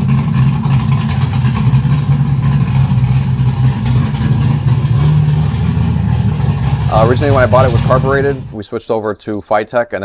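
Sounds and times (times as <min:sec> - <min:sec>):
car engine running at low revs: 0:00.0 - 0:08.6.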